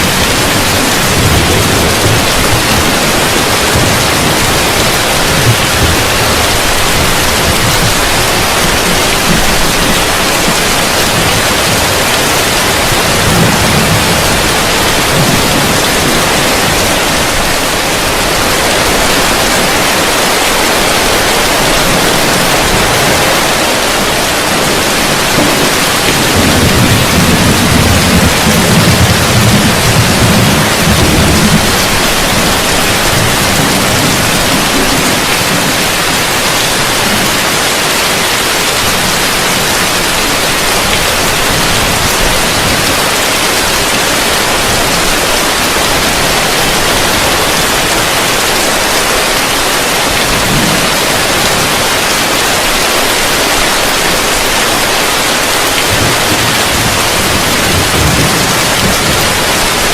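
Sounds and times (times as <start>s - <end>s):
heavy rain on a roof: 0.0s - 59.9s
thunder rumbling: 0.0s - 59.9s.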